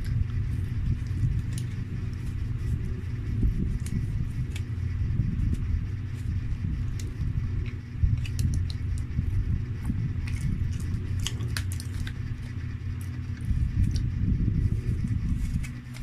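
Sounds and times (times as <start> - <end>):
close chewing: 0.0 - 16.0
low steady hum: 0.0 - 16.0.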